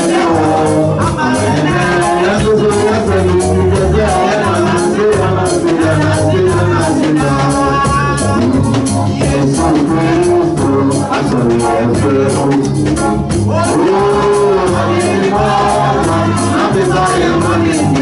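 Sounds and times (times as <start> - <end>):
live band with keyboard and drums: 0.0 - 18.0.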